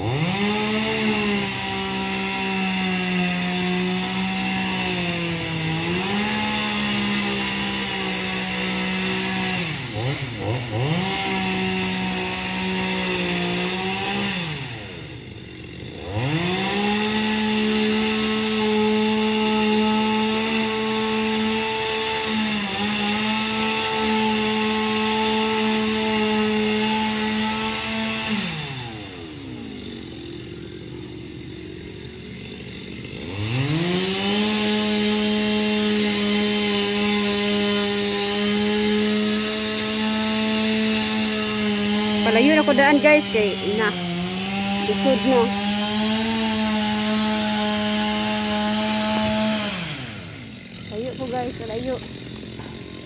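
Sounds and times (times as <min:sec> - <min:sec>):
chainsaw cutting tree trunk: 0:00.0 - 0:53.0.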